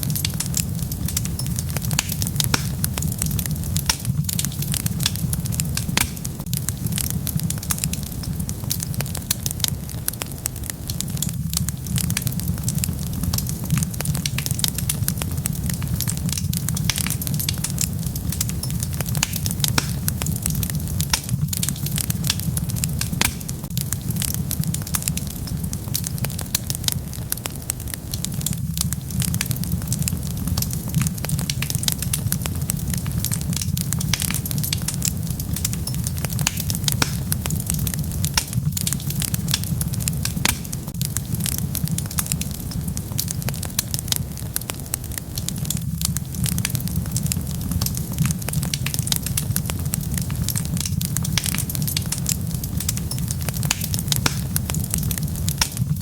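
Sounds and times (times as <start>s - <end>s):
low rumble of fire: 0.0s - 56.0s
wood fire crackling: 0.0s - 56.0s.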